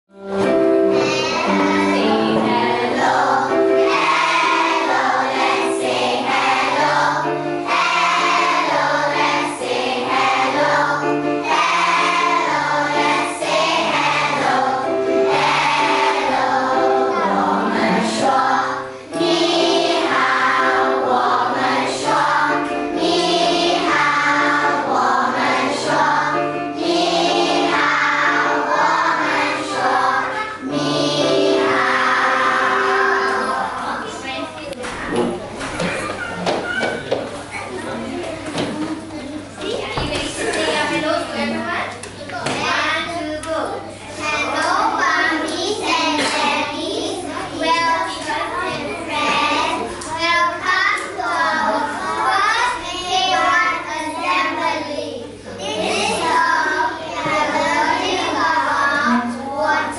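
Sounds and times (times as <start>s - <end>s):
children singing: 0.8s - 34.1s, 44.4s - 59.9s.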